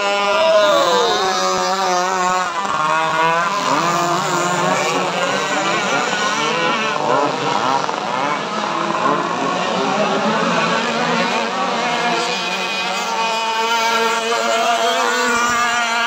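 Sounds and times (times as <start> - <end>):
racing boat engines whining: 0.0 - 16.0.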